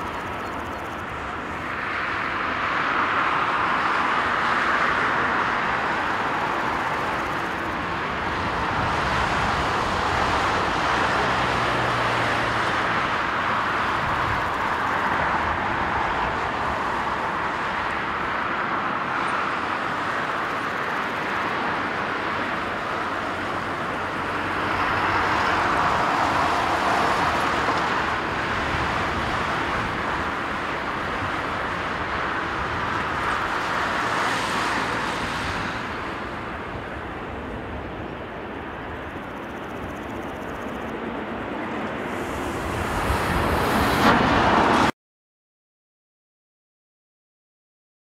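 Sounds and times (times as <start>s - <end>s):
jet engines at takeoff power: 0.0s - 44.9s.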